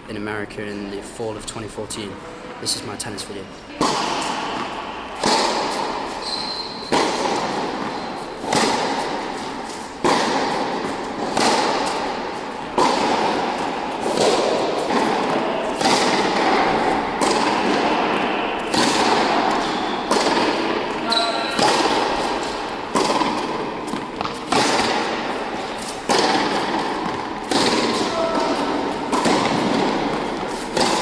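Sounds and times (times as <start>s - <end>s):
tennis ball struck by rackets: 3.7s - 31.0s.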